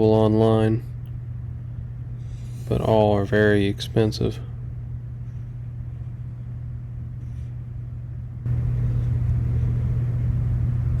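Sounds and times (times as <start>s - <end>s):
loud whirring noise: 0.0s - 11.0s
low machine hum: 0.0s - 11.0s.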